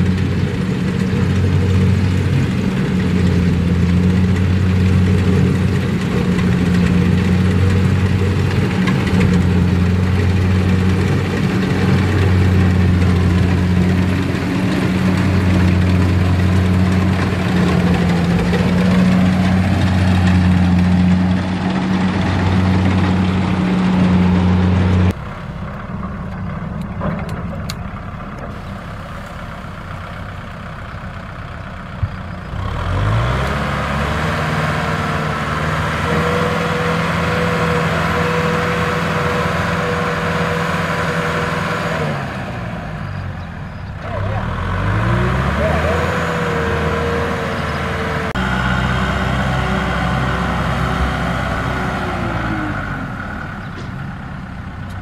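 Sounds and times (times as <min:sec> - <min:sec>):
rough engine sound: 0:00.0 - 0:55.0
tractor diesel engine idling: 0:00.0 - 0:55.0.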